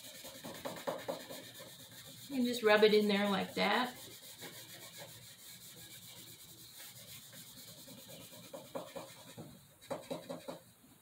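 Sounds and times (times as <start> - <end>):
pad scrubbing wooden tabletop: 0.0 - 10.6.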